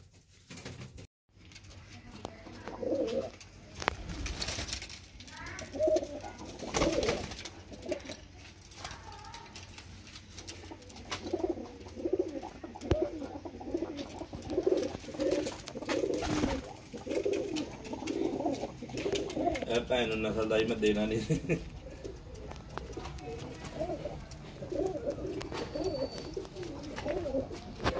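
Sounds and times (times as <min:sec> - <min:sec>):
pigeons cooing: 0:02.5 - 0:03.4, 0:05.4 - 0:09.3, 0:10.3 - 0:27.9.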